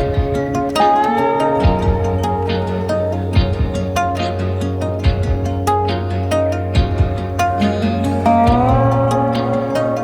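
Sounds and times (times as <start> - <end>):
plucked-string melody with bass and beat: 0.0 - 10.0.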